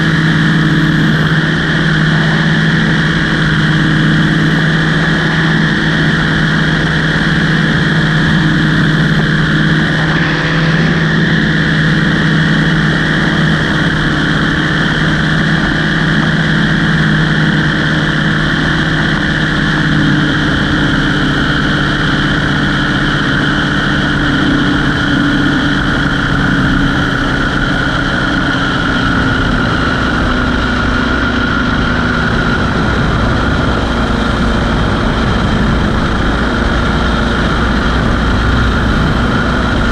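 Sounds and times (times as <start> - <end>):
small aircraft engine droning: 0.0 - 39.9.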